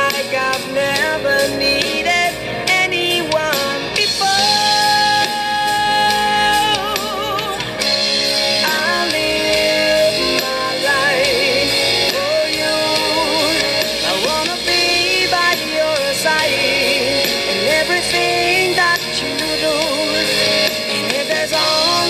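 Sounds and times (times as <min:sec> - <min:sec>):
person singing long notes: 0:00.0 - 0:07.8, 0:08.5 - 0:22.0
instrumental backing: 0:00.0 - 0:22.0.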